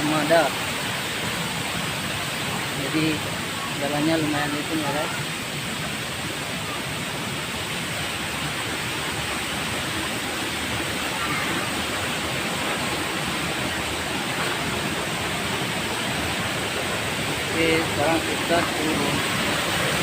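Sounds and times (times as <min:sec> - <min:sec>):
flowing water roaring: 0:00.0 - 0:20.0.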